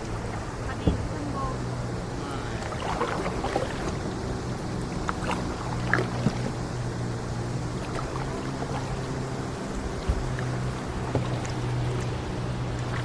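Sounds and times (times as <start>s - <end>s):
boat engine humming: 0.0s - 13.0s
water noise: 0.0s - 13.0s.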